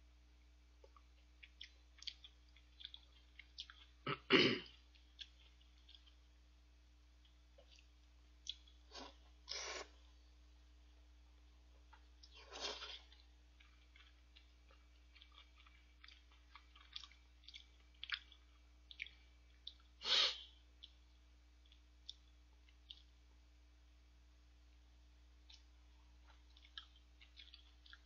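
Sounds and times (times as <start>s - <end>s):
soft chewing: 0.7s - 6.5s, 7.1s - 10.3s, 10.9s - 23.4s, 25.2s - 28.0s.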